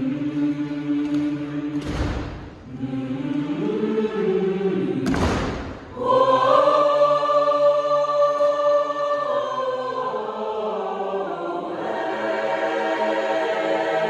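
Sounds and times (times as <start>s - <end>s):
mixed choir singing: 0.0s - 14.0s.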